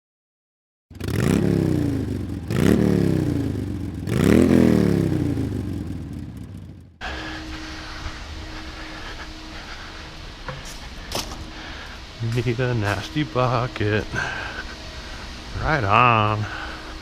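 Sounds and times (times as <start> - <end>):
engine revving: 0.9 - 17.0
engine running with steady hum: 0.9 - 17.0.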